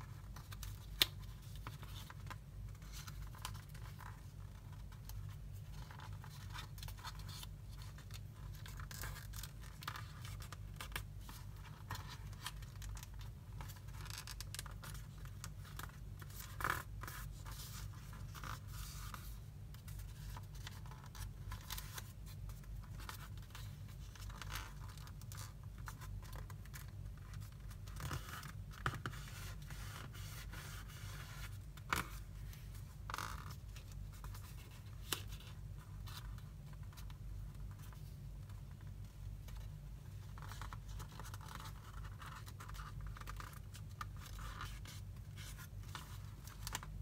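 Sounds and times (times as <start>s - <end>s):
paper rustling and crinkling: 0.0s - 47.0s.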